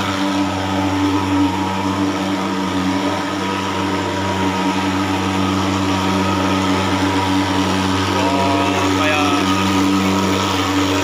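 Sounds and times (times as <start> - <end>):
fogging machine droning: 0.0 - 11.0.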